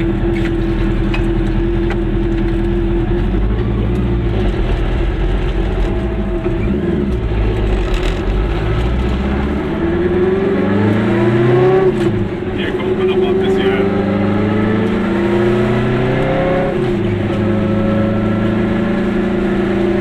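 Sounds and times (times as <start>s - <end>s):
two-stroke car engine from inside: 0.0s - 20.0s.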